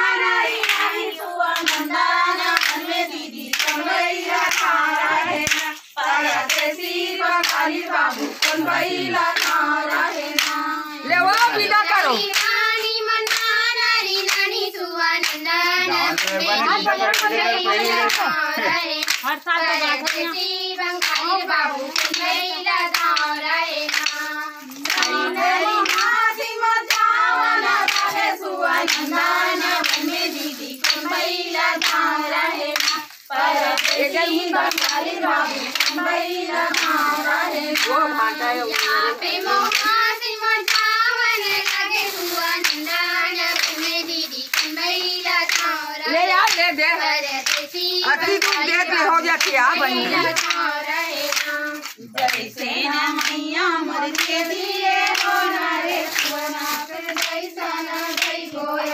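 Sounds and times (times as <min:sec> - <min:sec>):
rhythmic hand-clapping: 0:00.0 - 0:58.9
women singing folk song: 0:00.0 - 0:58.9.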